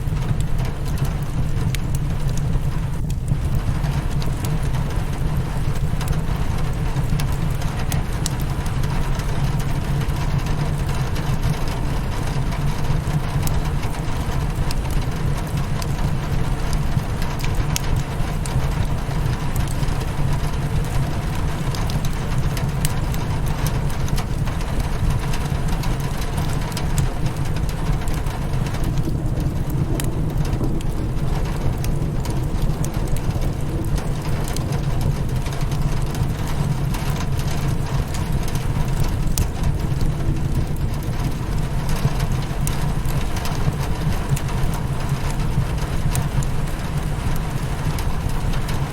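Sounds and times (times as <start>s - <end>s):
rain pattering on window: 0.0s - 48.9s
steady low rumble: 0.0s - 48.9s
wood fire crackling: 0.0s - 48.9s.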